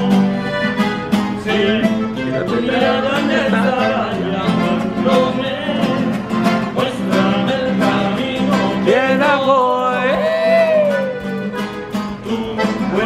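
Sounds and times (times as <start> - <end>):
plucked strings music: 0.0 - 13.0
person singing: 1.3 - 11.4, 12.0 - 13.0.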